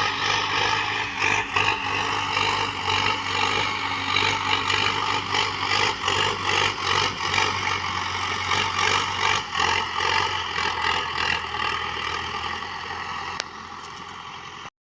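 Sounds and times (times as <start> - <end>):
tractor diesel engine running: 0.0 - 14.7.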